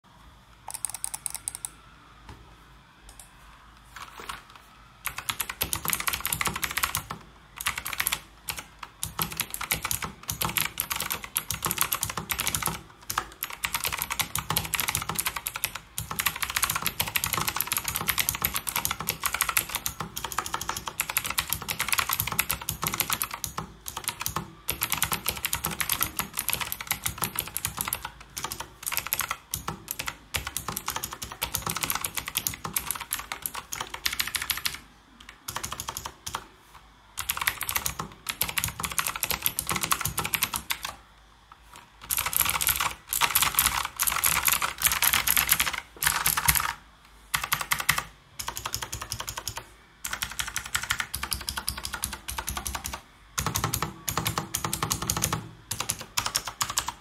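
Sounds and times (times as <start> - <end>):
mechanical keyboard typing: 0.7 - 1.8, 4.0 - 36.5, 37.2 - 41.0, 41.6 - 57.0.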